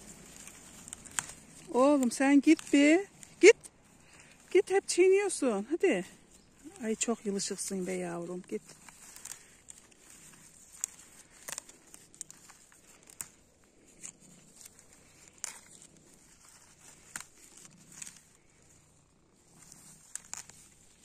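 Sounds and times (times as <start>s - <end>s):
plant stems snapping: 0.0s - 4.9s, 5.7s - 18.4s, 19.6s - 21.0s
rustling in wet grass: 0.0s - 21.0s.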